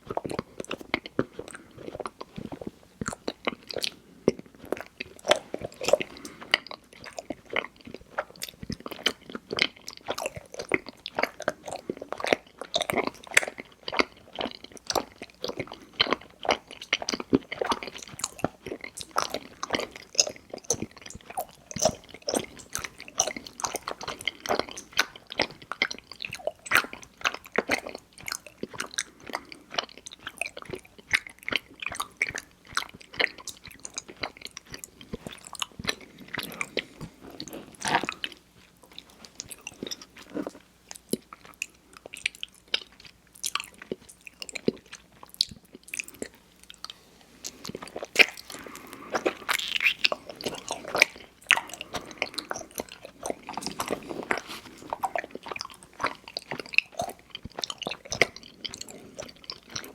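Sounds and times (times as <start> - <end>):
sticky chewing with wet smacks: 0.0 - 59.9.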